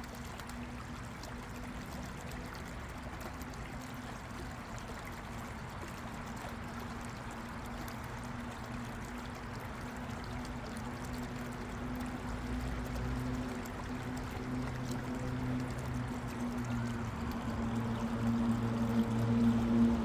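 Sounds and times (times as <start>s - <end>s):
water trickling over rocks: 0.0s - 20.0s.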